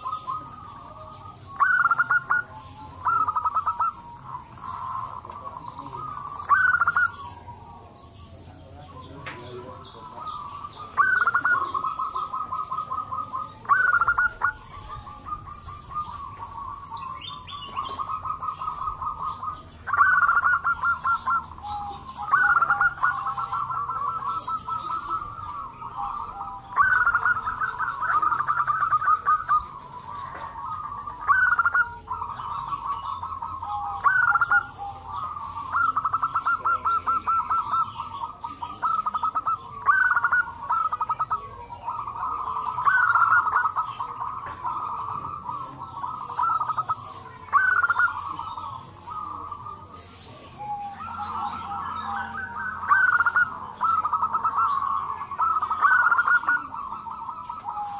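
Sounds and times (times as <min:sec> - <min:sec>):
doves cooing: 0:00.0 - 0:57.9.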